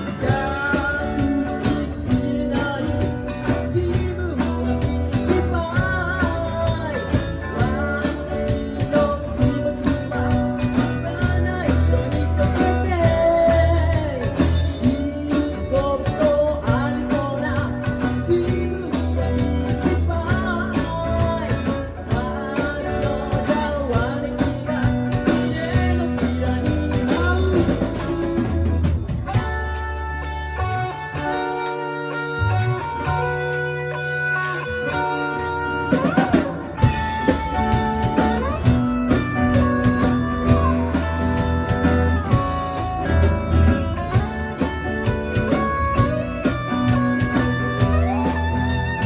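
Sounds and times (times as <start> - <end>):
person singing: 0.0 - 29.9, 30.6 - 49.0
electric guitar: 0.0 - 49.0
live rock band playing: 0.0 - 49.0.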